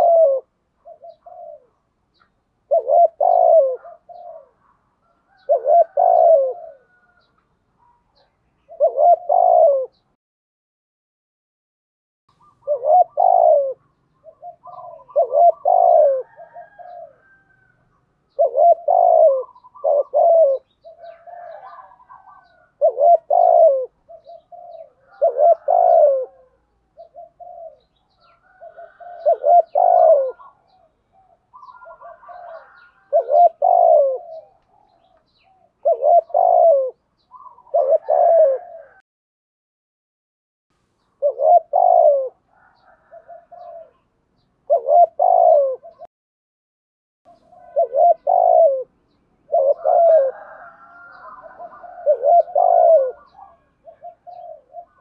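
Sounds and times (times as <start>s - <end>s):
dove cooing: 0.0s - 10.2s, 12.4s - 39.0s, 41.0s - 46.1s, 47.3s - 55.0s.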